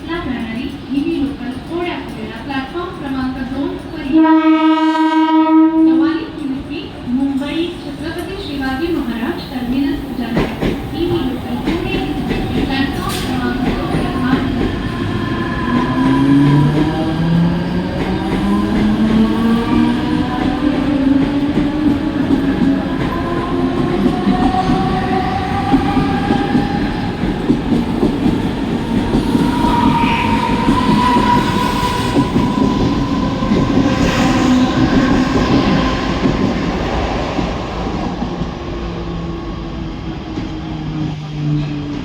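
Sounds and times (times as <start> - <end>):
electric train wheels rumbling: 0.0 - 42.0.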